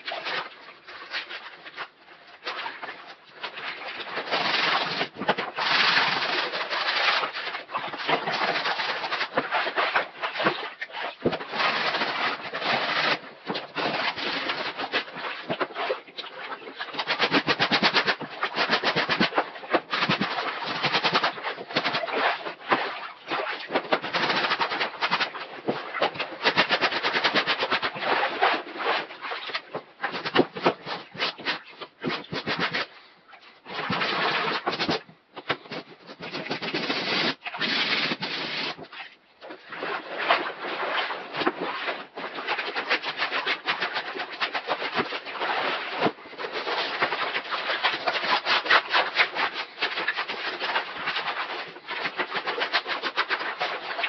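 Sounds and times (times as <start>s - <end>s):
brush scrubbing wet fabric: 0.0s - 54.0s.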